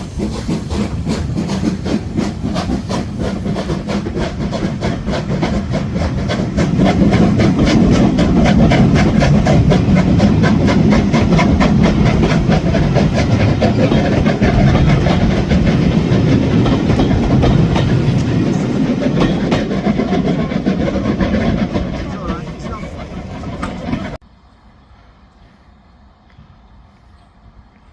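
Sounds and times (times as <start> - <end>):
train wheels clattering: 0.0 - 24.2
train passing: 0.0 - 27.9.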